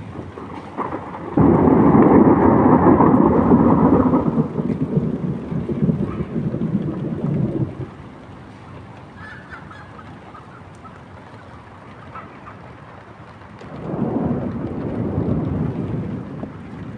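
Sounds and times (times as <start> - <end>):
thunder rumbling: 0.0 - 16.9.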